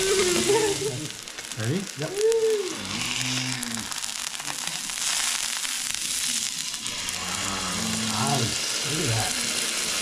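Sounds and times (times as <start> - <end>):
steak sizzling on a grill: 0.0 - 10.0.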